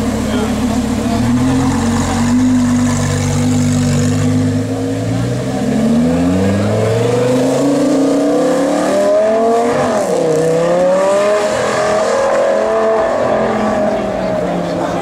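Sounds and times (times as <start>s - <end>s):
sports car accelerating hard: 0.2s - 15.0s.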